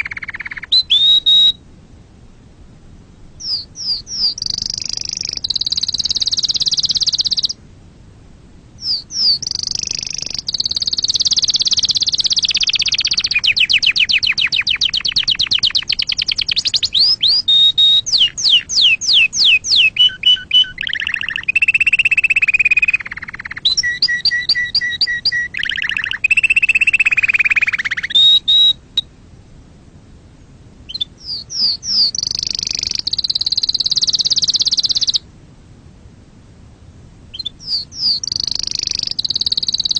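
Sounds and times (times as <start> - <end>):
canary singing: 0.0 - 1.6, 3.3 - 7.6, 8.8 - 29.1, 30.9 - 35.2, 37.3 - 39.9.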